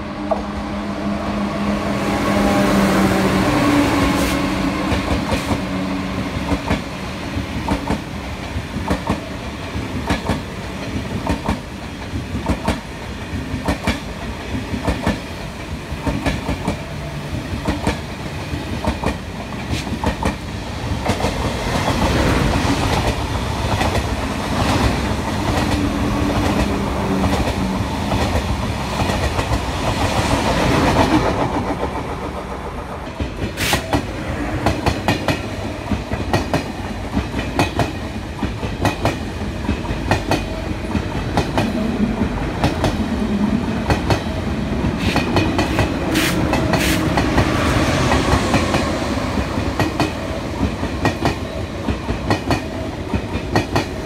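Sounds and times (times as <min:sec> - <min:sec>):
train running noise: 0:00.0 - 0:54.0
train wheels clicking over rail joints: 0:06.4 - 0:20.4, 0:21.0 - 0:43.0, 0:43.8 - 0:54.0.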